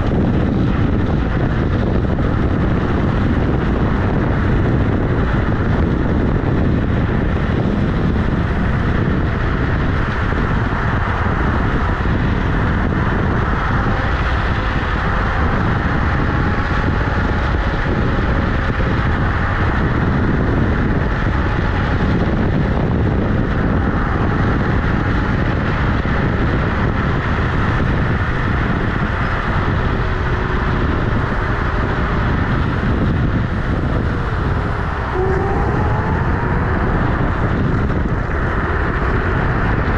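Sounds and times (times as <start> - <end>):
tyre rumbling on asphalt: 0.0 - 39.9
wind buffeting microphone: 0.0 - 39.9.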